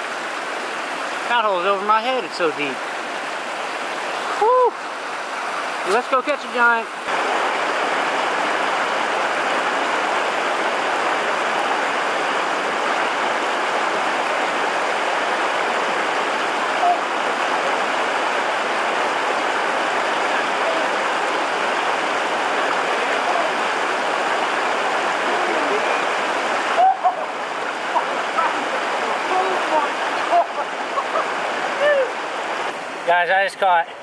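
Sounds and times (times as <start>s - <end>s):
waterfall rushing into pool: 0.0s - 34.0s.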